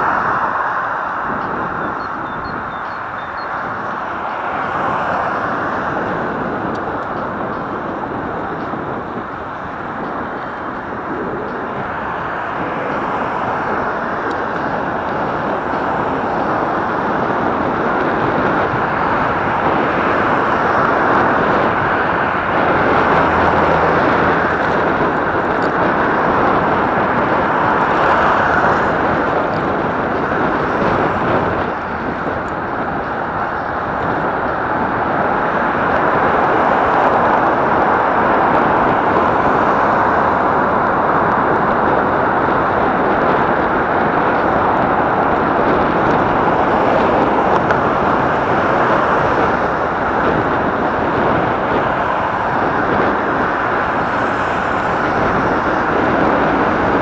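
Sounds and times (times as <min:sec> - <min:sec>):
tyres on asphalt: 0:00.0 - 0:57.0
wind rushing: 0:00.0 - 0:57.0.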